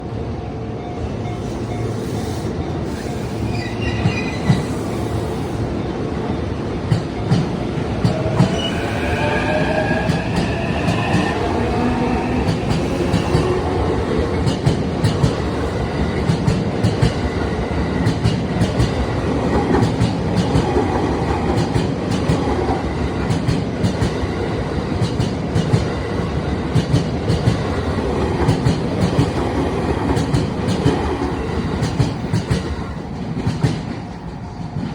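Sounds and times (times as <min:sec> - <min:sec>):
train whine: 0:00.0 - 0:34.9.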